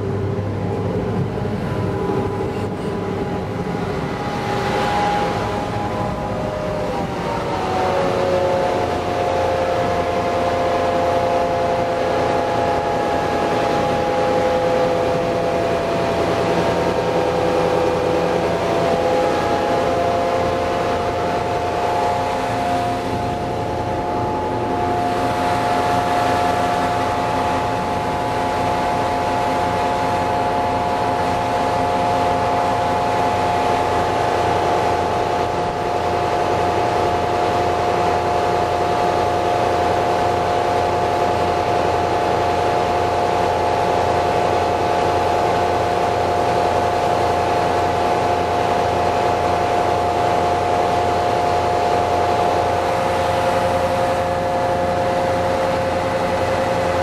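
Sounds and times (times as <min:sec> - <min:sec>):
tugboat diesel engine running: 0:00.0 - 0:57.0.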